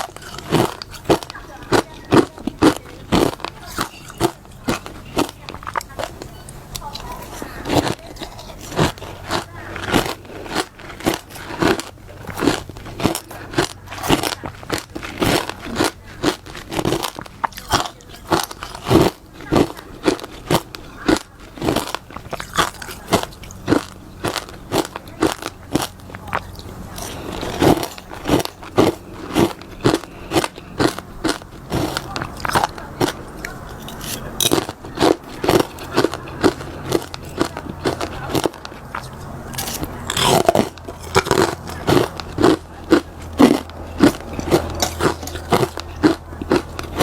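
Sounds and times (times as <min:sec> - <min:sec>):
chewing crunchy frost: 0:00.0 - 0:47.0.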